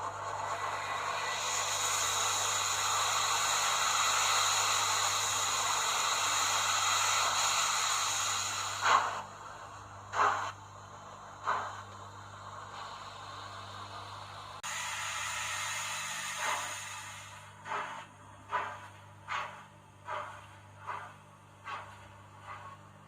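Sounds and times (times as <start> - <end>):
model train rushing hiss: 0.0 - 10.6, 11.3 - 20.2.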